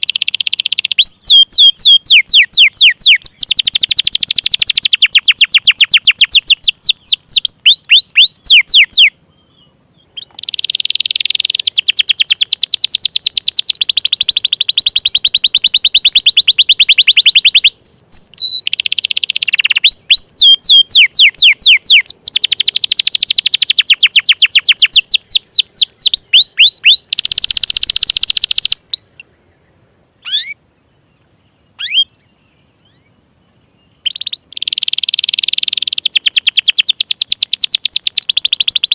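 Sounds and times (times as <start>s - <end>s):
canary singing trills: 0.0s - 29.3s, 30.2s - 38.9s.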